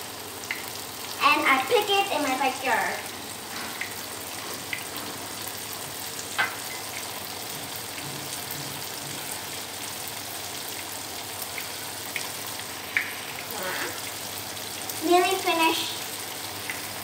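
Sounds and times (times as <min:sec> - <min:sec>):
tofu sizzling in hot oil: 0:00.0 - 0:17.0.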